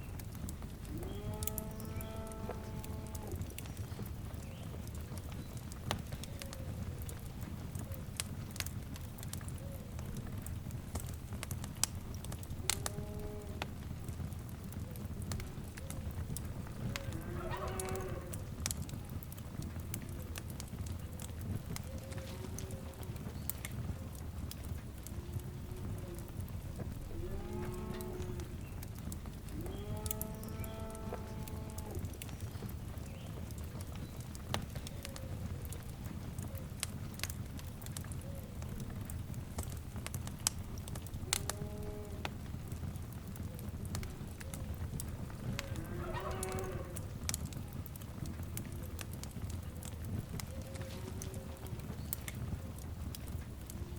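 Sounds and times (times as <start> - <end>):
fire crackling and popping: 0.0 - 53.9
low rumble of flames: 0.0 - 53.9.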